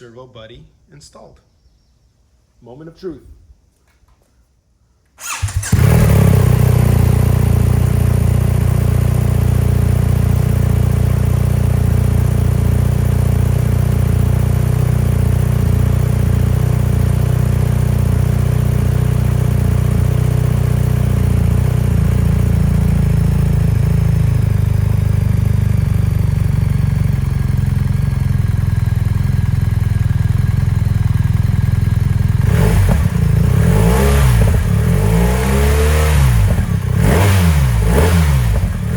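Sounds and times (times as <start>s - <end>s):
motorcycle engine starting and idling: 5.2s - 38.9s.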